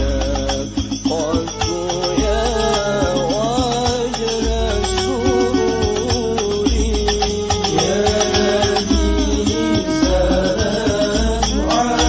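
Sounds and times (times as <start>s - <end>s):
frame drums: 0.0s - 12.0s
person singing ornamented melody: 0.0s - 12.0s.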